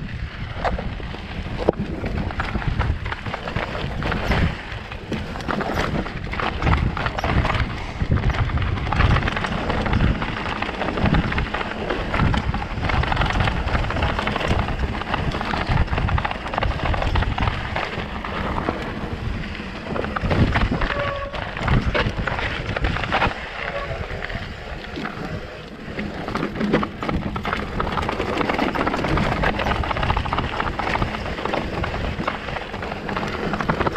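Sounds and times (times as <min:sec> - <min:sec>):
bike rattling over bumps: 0:00.0 - 0:33.9
bike tyres rumbling over rock: 0:00.0 - 0:33.9
wind buffeting microphone: 0:00.0 - 0:33.9.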